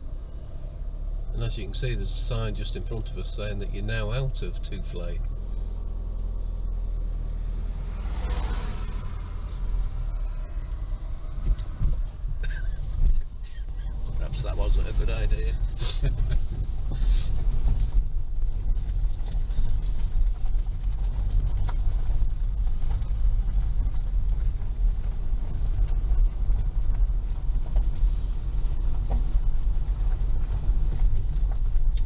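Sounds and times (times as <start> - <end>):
car tyres rumbling on gravel: 0.0 - 32.0.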